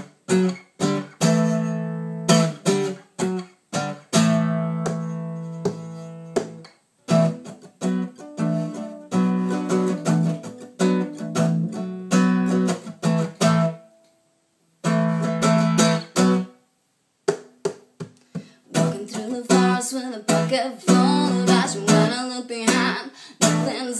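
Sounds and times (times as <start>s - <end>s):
acoustic guitar strumming: 0.0s - 14.1s, 14.8s - 16.7s, 17.3s - 23.9s.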